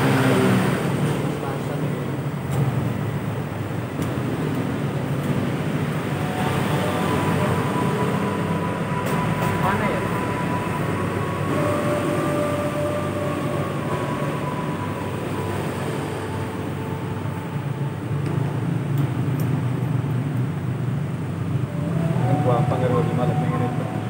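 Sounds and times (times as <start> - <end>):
low rumbling hum: 0.0 - 24.0
faint steady whine: 1.0 - 24.0.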